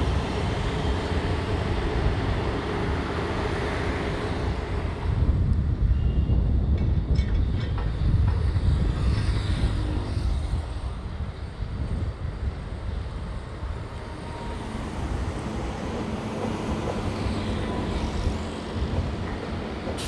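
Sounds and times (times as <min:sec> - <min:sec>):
faint locomotive hum: 0:00.0 - 0:20.0
train rumbling on tracks: 0:00.0 - 0:20.0.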